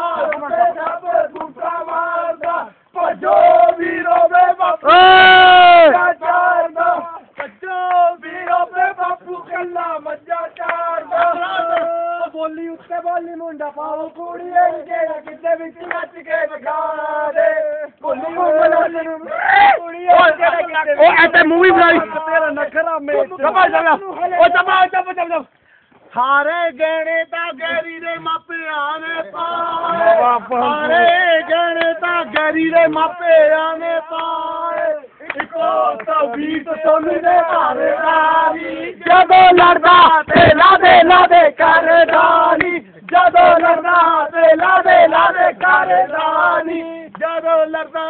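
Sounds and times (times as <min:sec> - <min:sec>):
men singing loudly: 0:00.0 - 0:25.0, 0:26.4 - 0:48.0.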